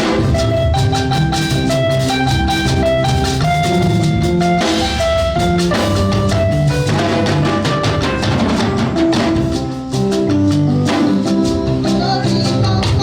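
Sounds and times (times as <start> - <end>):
melody of short held notes: 0.0 - 12.8
drum kit beat: 0.0 - 13.0.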